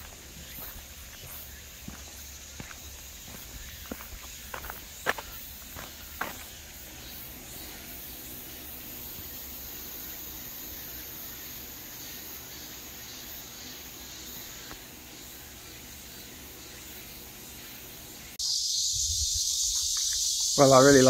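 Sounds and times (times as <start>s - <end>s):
insects chirring in trees: 0.0s - 21.0s
loud high insect drone: 0.0s - 21.0s.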